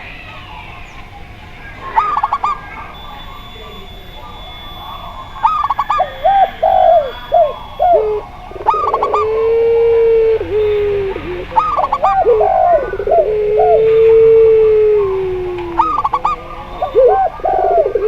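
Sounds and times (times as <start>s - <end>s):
high bubbling dove notes: 0.0s - 18.0s
long level dove coo: 0.0s - 18.0s
lower arched dove coos: 0.0s - 18.0s.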